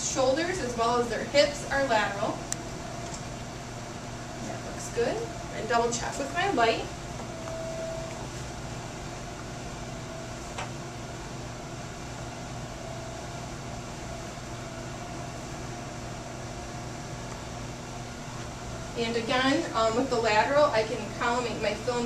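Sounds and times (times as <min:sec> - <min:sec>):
equipment hum and hiss: 0:00.0 - 0:22.0.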